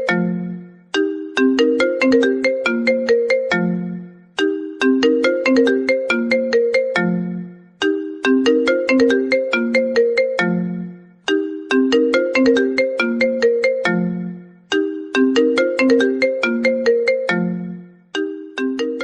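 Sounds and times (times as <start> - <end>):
phone ringtone melody: 0.0 - 19.0.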